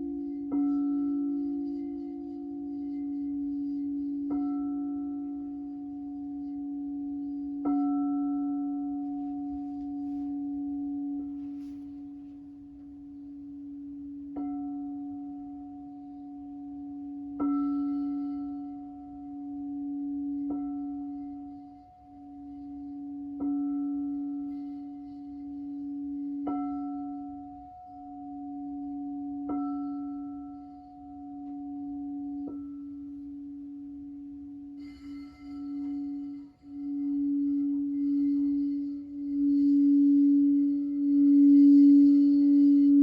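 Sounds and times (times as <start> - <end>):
crystal singing bowls ringing: 0.0 - 43.0.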